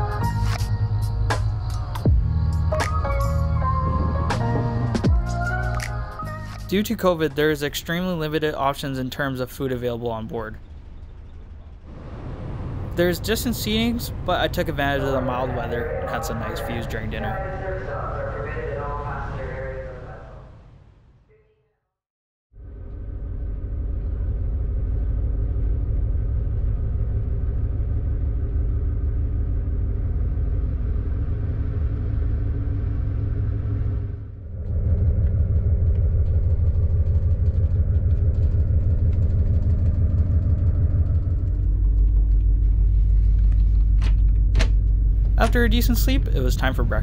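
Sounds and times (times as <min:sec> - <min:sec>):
ship engines rumbling: 0:00.0 - 0:20.9, 0:22.6 - 0:47.0.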